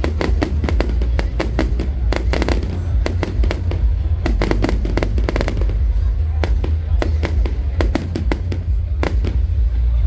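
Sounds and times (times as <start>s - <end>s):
fireworks bangs and crackles: 0.0s - 10.0s
steady low rumble: 0.0s - 10.0s.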